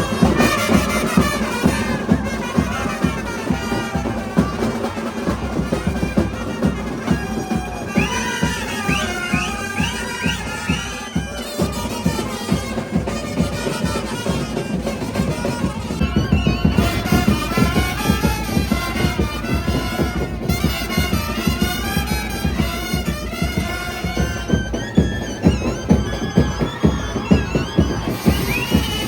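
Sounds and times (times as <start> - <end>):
brass band melody: 0.0 - 29.0
steady drumming: 0.0 - 29.0.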